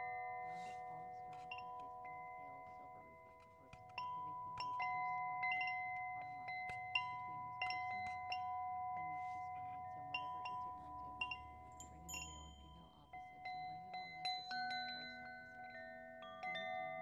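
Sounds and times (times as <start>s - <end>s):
metal chimes ringing: 0.0s - 17.0s.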